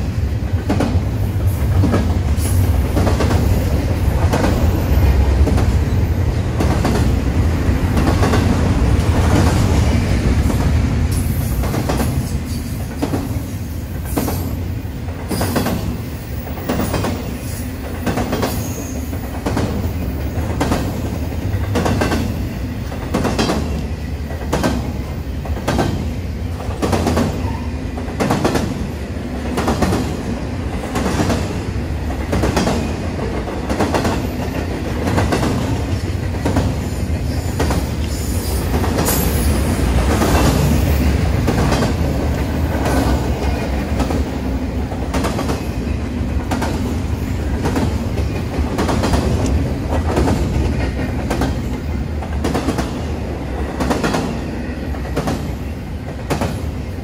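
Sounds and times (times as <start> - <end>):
train wheels clickety-clack: 0.0 - 57.0.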